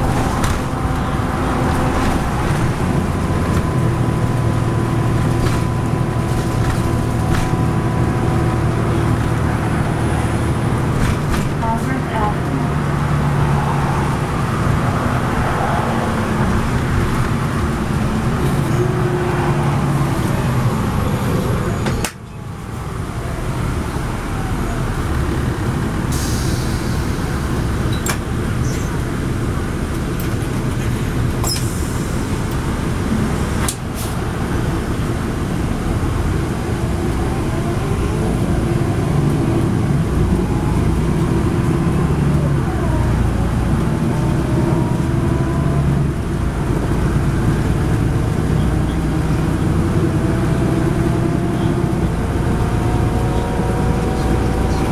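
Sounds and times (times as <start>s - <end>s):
bus diesel engine rumble: 0.0s - 54.9s
tyre and road noise: 0.0s - 54.9s.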